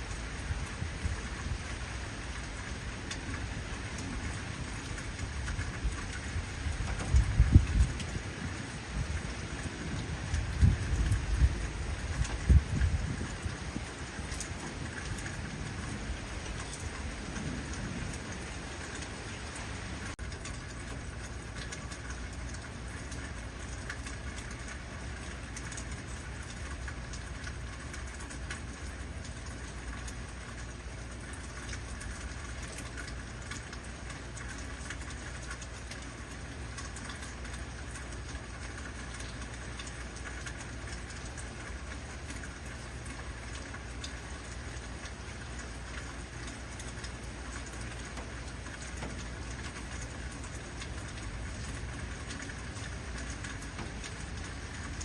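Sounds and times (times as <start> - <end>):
constant low rumble: 0.0 - 55.0
heavy rain falling: 0.0 - 55.0.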